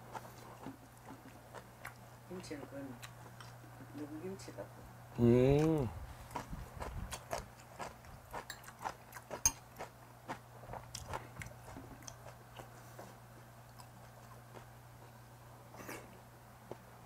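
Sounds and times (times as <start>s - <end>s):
chewing and crunching food: 0.0s - 4.2s, 5.5s - 17.0s
faint low hum: 0.0s - 17.0s.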